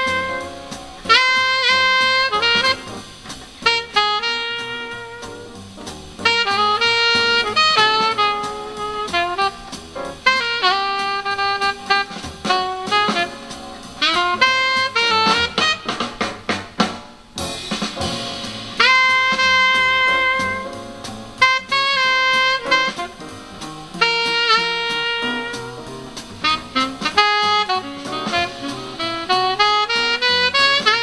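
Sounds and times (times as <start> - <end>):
jazz saxophone with backing: 0.0 - 31.0.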